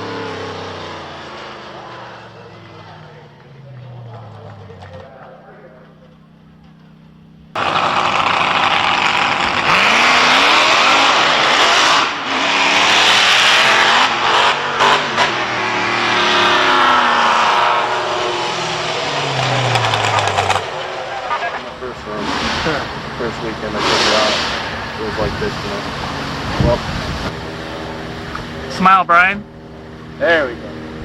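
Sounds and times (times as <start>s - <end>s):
racing engine revving: 0.0s - 31.0s.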